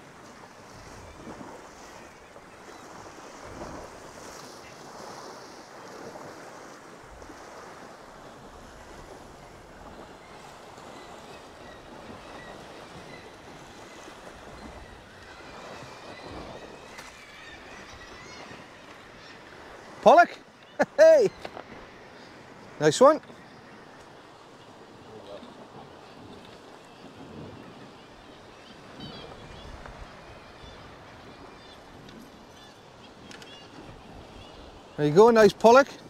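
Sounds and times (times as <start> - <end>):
surf washing against rocks: 0.0 - 36.0.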